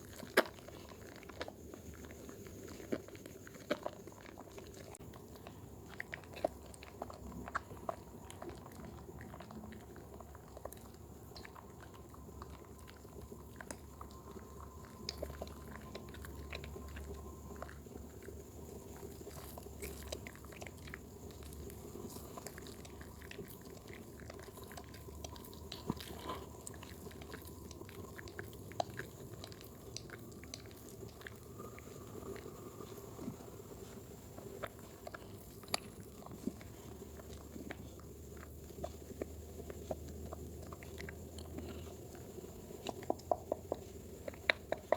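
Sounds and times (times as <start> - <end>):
low steady background noise: 0.0 - 44.9.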